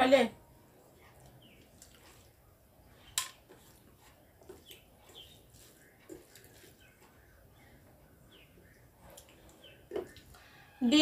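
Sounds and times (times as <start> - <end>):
fingers squishing rice: 0.8 - 10.4.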